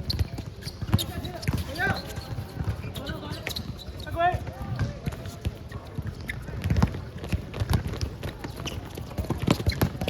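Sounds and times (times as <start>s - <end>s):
basketball bouncing: 0.0s - 10.0s
feet running on court: 0.0s - 10.0s.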